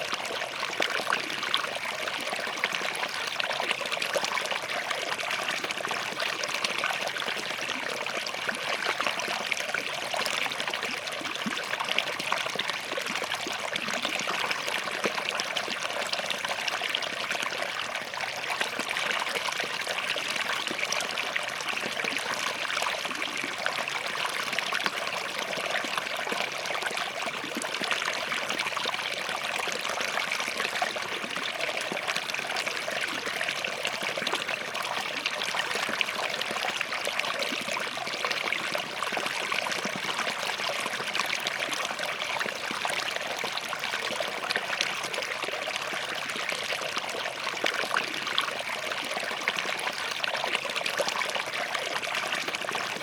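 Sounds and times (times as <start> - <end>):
stream trickling over rocks: 0.0 - 53.0.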